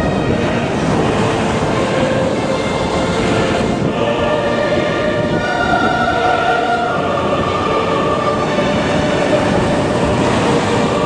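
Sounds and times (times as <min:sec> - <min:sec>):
choir-like music chords: 0:00.0 - 0:11.0
storm surf crashing: 0:00.0 - 0:11.0.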